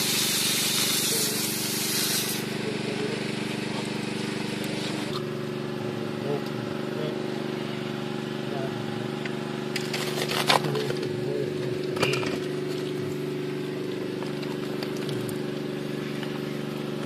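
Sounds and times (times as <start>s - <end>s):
low machine drone: 2.4s - 17.0s.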